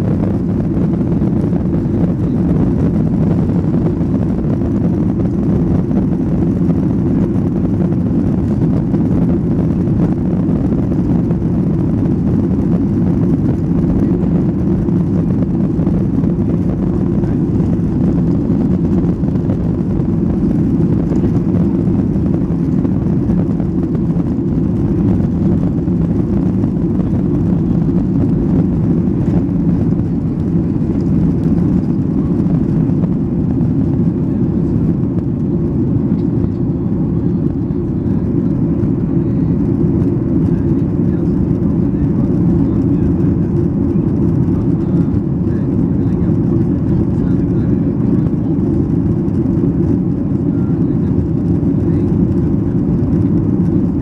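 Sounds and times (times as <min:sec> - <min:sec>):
jet engines at take-off thrust: 0:00.0 - 0:54.0.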